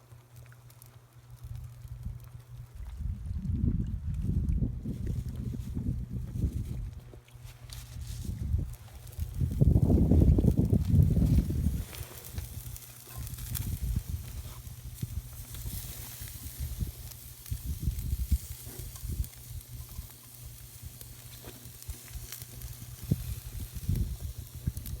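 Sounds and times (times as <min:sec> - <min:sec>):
campfire crackling and popping: 0:00.0 - 0:03.1, 0:04.8 - 0:25.0
wind rumble on microphone: 0:01.4 - 0:25.0.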